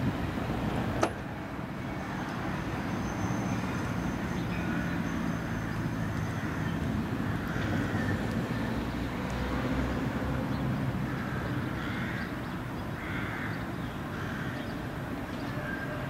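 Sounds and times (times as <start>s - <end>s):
distant trams rumbling: 0.0s - 16.0s.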